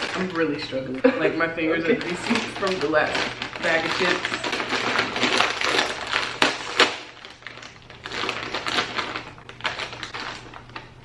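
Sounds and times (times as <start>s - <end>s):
plastic chip bag crinkling: 0.0s - 11.0s.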